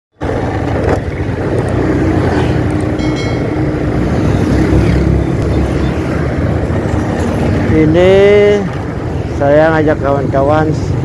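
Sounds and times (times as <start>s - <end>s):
motorcycle engine and road rumble: 0.2s - 11.0s.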